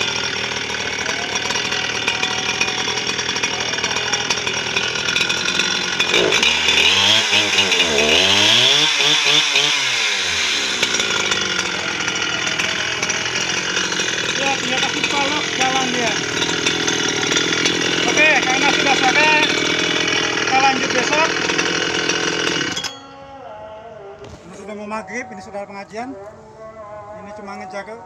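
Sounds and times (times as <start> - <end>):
chainsaw idling and revving: 0.0 - 23.1.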